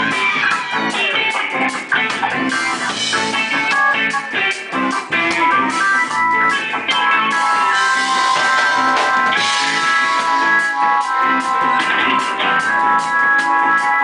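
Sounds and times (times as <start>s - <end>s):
reggae band playing: 0.0s - 14.0s.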